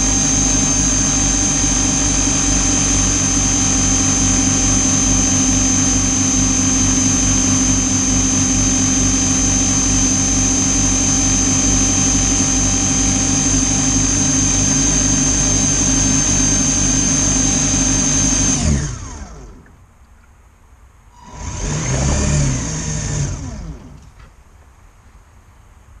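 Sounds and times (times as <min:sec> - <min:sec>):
model boat motor whining: 0:00.0 - 0:19.8, 0:21.1 - 0:24.3.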